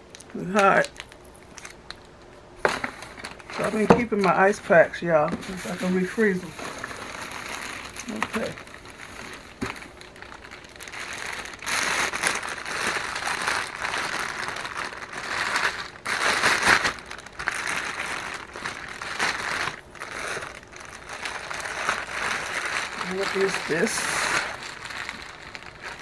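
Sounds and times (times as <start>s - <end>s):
plastic packaging crinkling: 0.1s - 26.0s.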